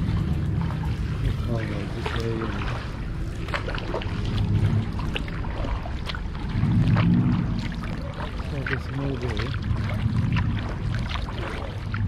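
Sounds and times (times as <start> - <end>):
kayak paddle strokes: 0.0 - 12.0
low hum: 0.0 - 12.0
water splashing and dripping: 0.0 - 12.0
wind rumble on microphone: 0.0 - 12.0.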